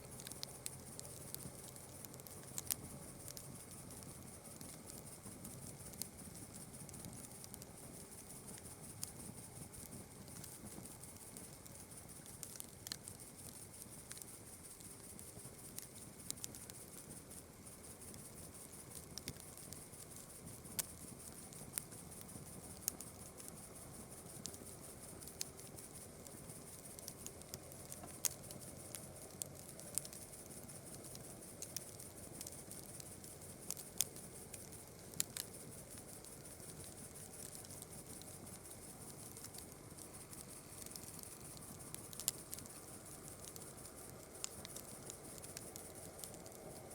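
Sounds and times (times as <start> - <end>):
campfire crackling and popping: 0.0 - 46.9
night insects chirring: 0.0 - 46.9.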